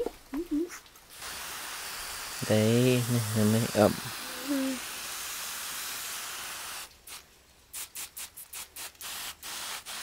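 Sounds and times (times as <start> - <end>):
water spraying from nozzle: 1.1 - 10.0.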